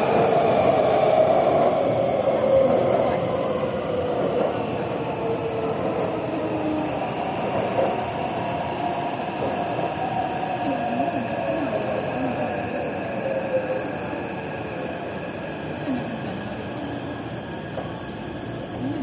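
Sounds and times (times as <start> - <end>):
metro train rumbling and whining: 0.0 - 19.0.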